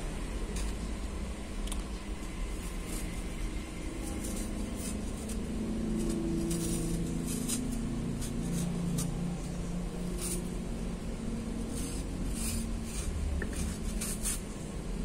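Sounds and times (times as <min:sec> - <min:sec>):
low droning hum: 0:00.0 - 0:15.0
knife paring apple skin: 0:02.2 - 0:14.8.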